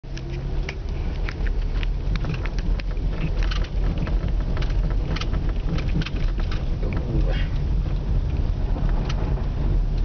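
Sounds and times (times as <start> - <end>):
engine and road rumble: 0.0 - 10.0
small clicks and crackles: 0.1 - 10.0.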